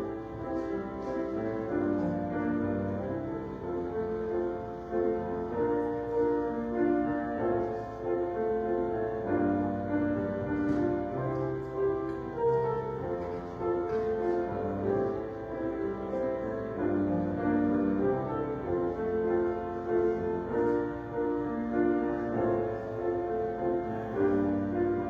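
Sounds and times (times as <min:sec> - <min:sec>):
slow keyboard music: 0:00.0 - 0:25.0.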